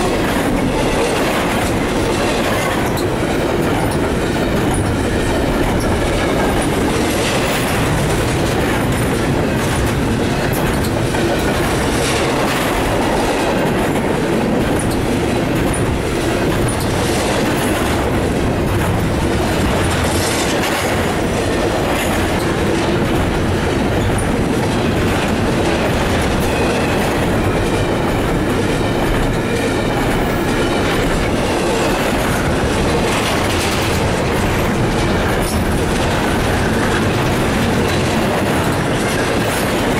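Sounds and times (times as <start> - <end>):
freight train rolling past: 0.0 - 39.9
steel wheels on rails: 0.0 - 39.9.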